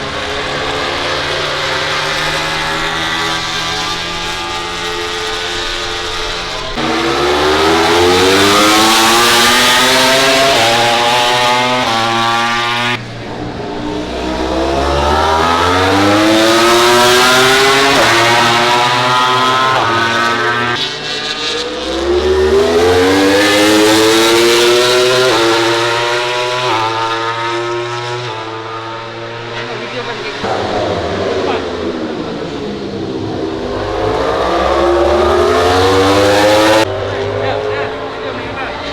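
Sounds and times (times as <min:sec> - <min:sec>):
racing motorcycle engines revving: 0:00.0 - 0:38.9.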